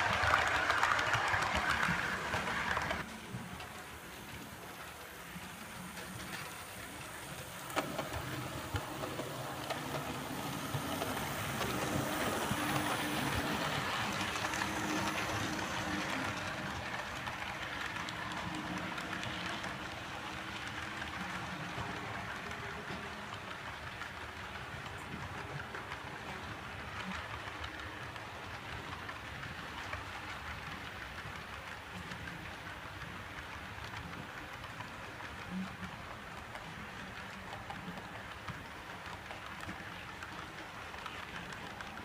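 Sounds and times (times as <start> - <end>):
model train rolling rattle: 0.0 - 42.0.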